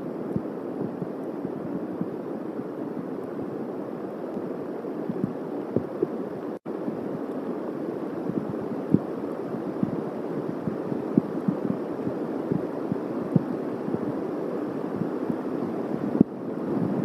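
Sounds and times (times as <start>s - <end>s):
rain pattering: 0.2s - 16.4s.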